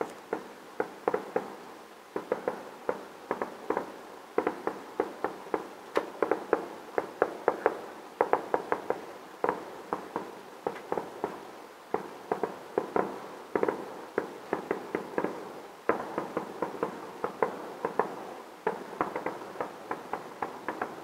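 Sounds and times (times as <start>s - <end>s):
distant fireworks bursting: 0.0s - 21.0s.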